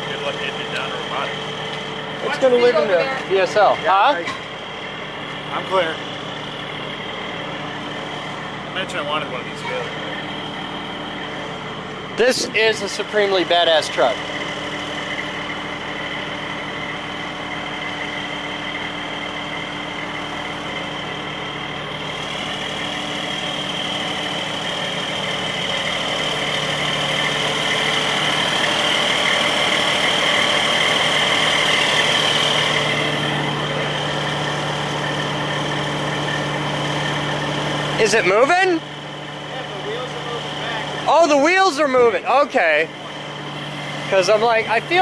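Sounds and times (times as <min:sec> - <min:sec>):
high whine: 0:00.0 - 0:45.0
truck engine idling: 0:00.0 - 0:45.0.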